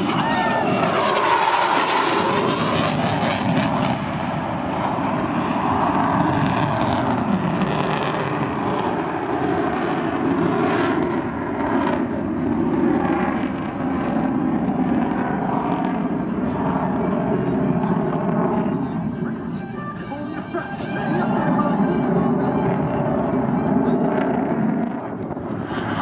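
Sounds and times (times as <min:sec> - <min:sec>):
loud steady jet noise: 0:00.0 - 0:26.0.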